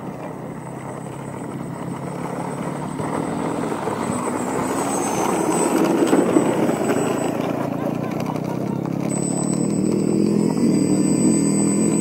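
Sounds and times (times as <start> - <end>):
electric motors and propellers buzzing: 0.0 - 12.0.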